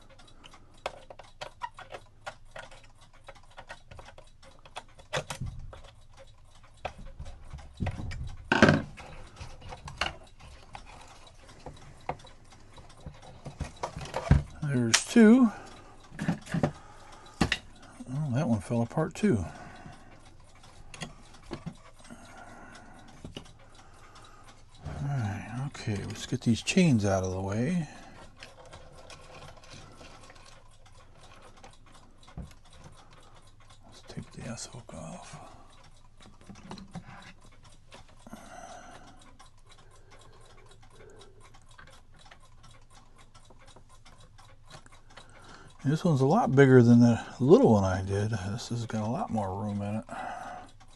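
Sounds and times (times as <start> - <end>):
tools clicking and tapping: 0.0 - 33.4, 34.0 - 39.4, 40.2 - 47.8.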